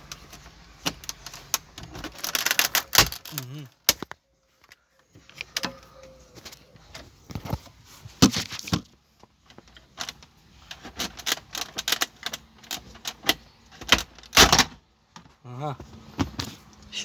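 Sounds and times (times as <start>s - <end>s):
sunroof parts clicking and rattling: 0.0s - 16.9s.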